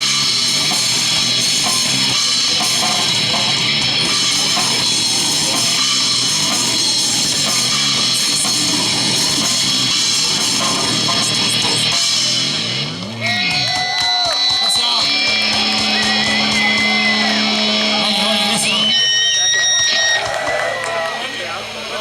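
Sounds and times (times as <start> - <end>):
drum kit: 0.0 - 21.1
electric guitar: 0.0 - 22.0.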